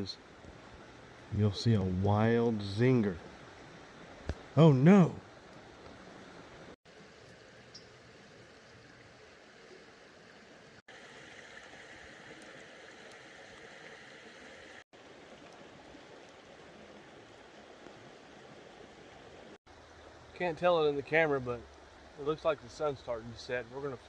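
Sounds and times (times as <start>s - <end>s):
creek running: 0.0s - 24.0s.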